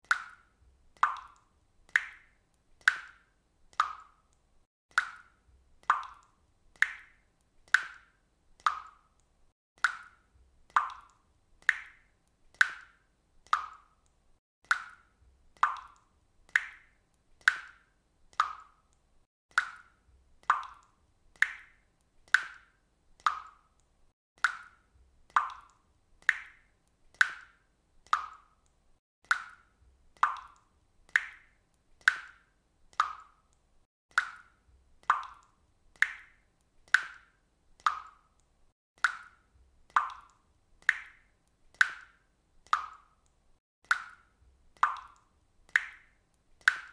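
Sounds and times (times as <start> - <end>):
faucet dripping water: 0.0 - 46.9.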